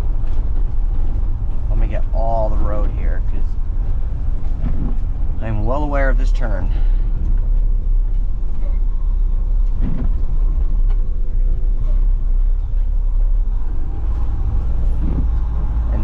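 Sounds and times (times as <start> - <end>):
diesel engine rumble: 0.0 - 16.0
faint steady whine: 0.0 - 16.0.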